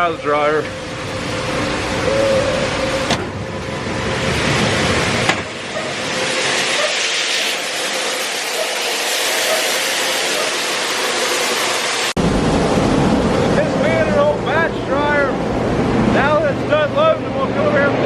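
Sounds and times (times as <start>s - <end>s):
grain dryer fan rushing: 0.0s - 18.0s.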